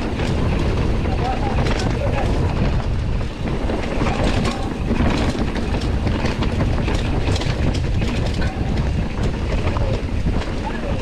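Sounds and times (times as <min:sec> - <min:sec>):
bike knocks and rattles: 0:00.0 - 0:11.0
bike tyres rumbling on dirt: 0:00.0 - 0:11.0.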